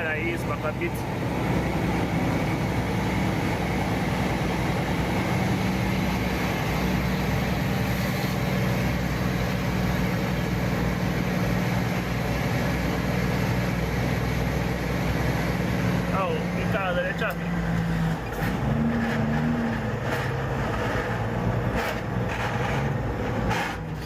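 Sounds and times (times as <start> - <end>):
road noise: 0.0 - 24.0
truck engine humming: 0.0 - 24.0.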